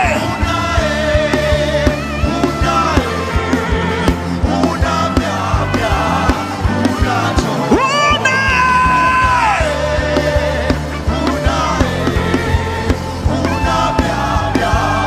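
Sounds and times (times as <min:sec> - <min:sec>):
live gospel worship music: 0:00.0 - 0:15.0.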